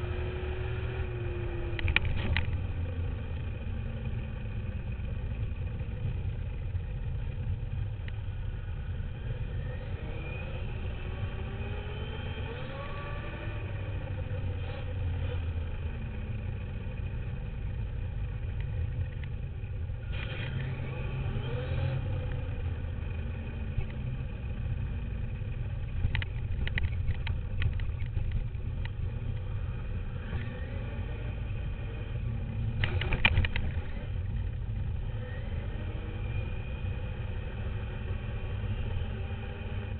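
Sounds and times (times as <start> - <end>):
rc motor whine and rumble: 0.0 - 39.9.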